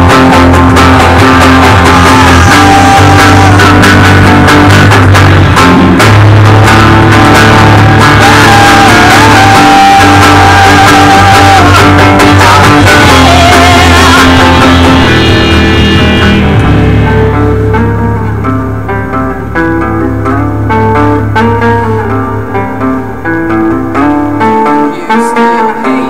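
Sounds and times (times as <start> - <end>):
electric and acoustic guitars: 0.0 - 26.0
held wavering melody line: 0.0 - 26.0.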